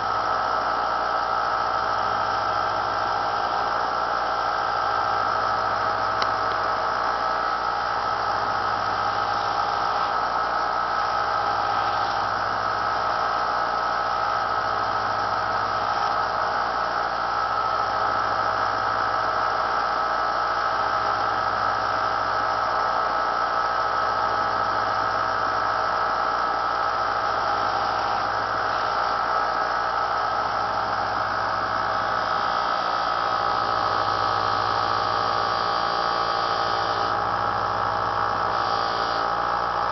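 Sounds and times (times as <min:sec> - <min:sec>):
belt sander running: 0:00.0 - 0:39.9
electric motor whine: 0:00.0 - 0:39.9.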